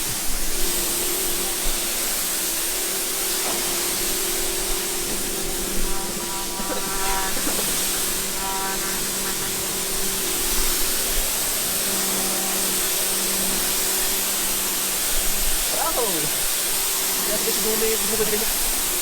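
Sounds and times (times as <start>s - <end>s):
pressure washer motor hum: 0.0s - 19.0s
pressure washer spraying: 0.0s - 19.0s.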